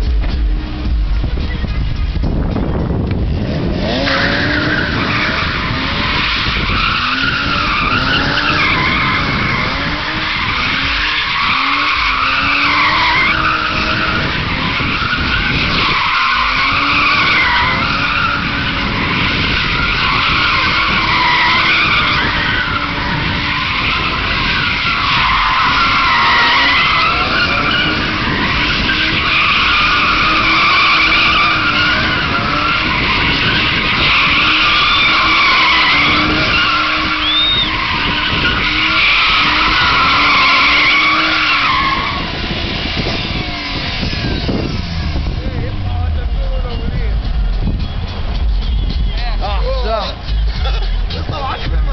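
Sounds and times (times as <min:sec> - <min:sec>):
car engine at high revs: 0:00.0 - 0:51.9
tyres squealing: 0:03.5 - 0:51.9.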